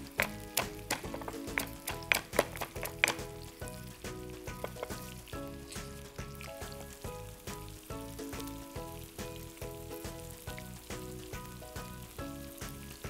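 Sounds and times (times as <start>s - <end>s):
background music with beat: 0.0s - 13.0s
fish sizzling in oil: 0.0s - 13.0s.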